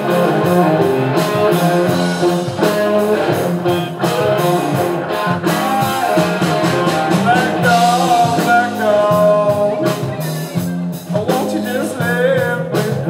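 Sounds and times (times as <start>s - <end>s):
bending lead guitar line: 0.0s - 13.0s
drums: 0.0s - 13.0s
electric and acoustic guitars: 0.0s - 13.0s.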